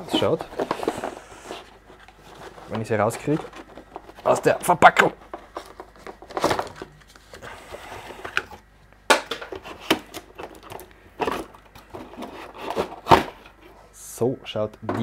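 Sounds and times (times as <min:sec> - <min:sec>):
packaging rustling: 0:00.0 - 0:08.7, 0:09.3 - 0:13.6.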